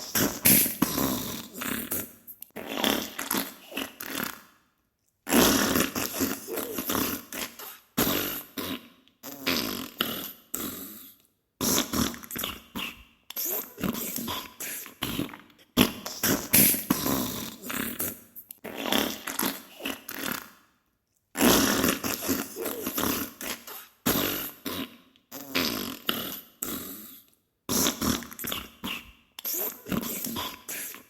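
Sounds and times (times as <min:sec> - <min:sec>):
sputtering fart bursts: 0:00.0 - 0:04.4, 0:05.3 - 0:10.2, 0:11.6 - 0:14.2, 0:15.0 - 0:20.6, 0:21.4 - 0:26.4, 0:27.7 - 0:30.8.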